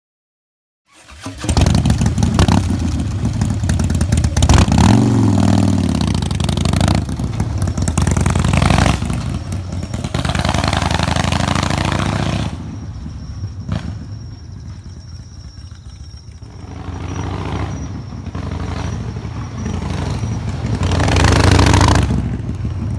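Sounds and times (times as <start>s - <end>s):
motorcycle engine revving and idling: 1.0s - 22.9s.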